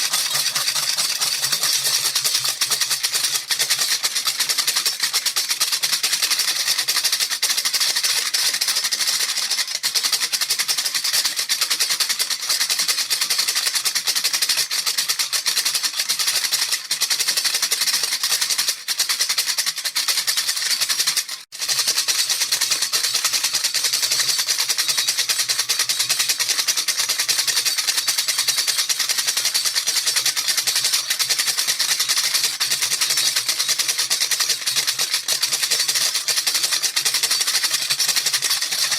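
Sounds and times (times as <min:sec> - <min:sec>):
baby rattle shaking: 0:00.0 - 0:38.9.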